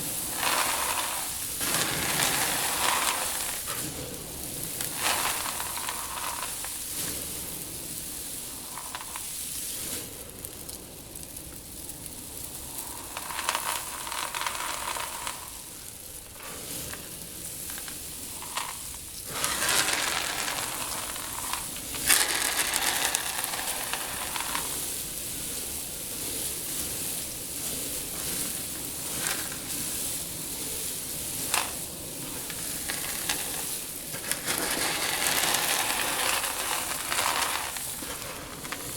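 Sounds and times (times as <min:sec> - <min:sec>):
seed trickling in a tank: 0:00.0 - 0:38.9.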